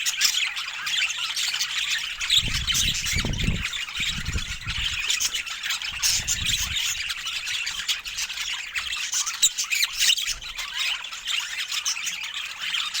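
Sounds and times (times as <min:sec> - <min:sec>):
budgerigars chattering and squawking: 0:00.0 - 0:13.0.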